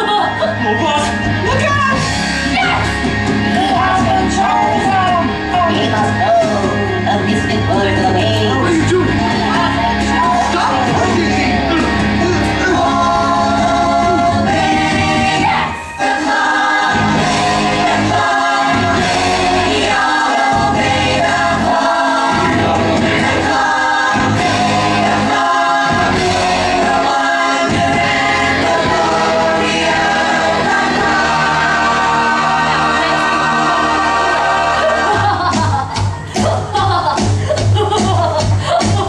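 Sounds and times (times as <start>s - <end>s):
chorus singing with accompaniment: 0.0s - 37.9s.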